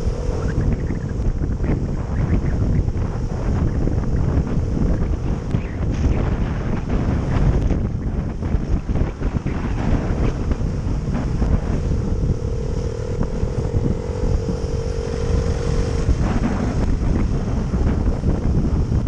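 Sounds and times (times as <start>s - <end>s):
motorcycle engine running: 0.0s - 19.0s
steady humming note: 0.0s - 19.0s
wind buffeting microphone: 0.0s - 19.0s.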